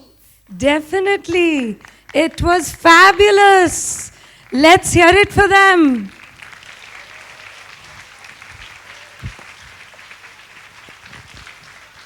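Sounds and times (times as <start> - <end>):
audience applause: 1.7 - 12.0.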